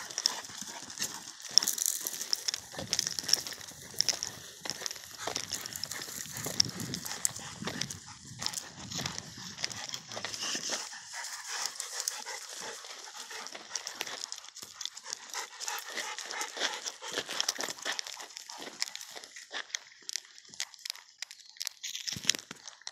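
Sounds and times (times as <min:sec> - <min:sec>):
dogs panting: 0:00.0 - 0:21.0
footsteps on gravel: 0:00.0 - 0:22.8.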